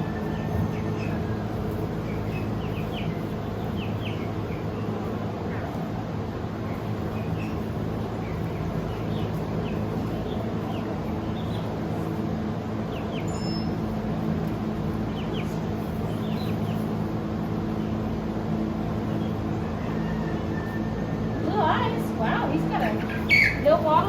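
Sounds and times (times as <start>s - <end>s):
small birds chirping: 0.0s - 20.5s, 21.4s - 24.0s
low machine hum: 0.0s - 24.0s.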